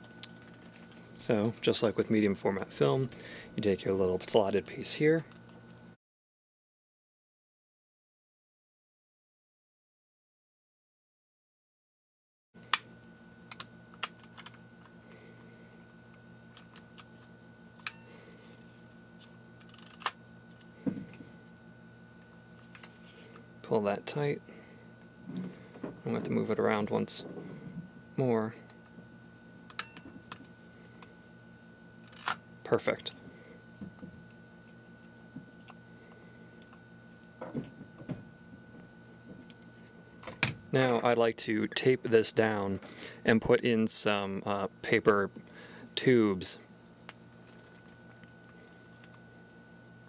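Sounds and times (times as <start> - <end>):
faint steady hum: 0.0 - 6.0, 12.6 - 50.0.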